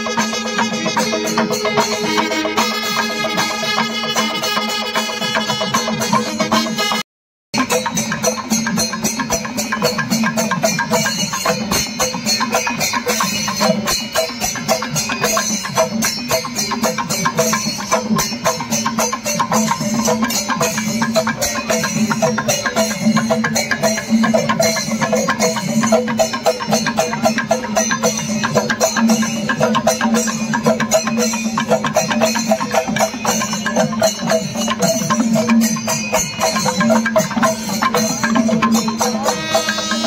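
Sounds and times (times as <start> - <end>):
rapid drum strokes: 0.0 - 7.0, 7.6 - 40.0
rattling high percussion: 0.0 - 40.0.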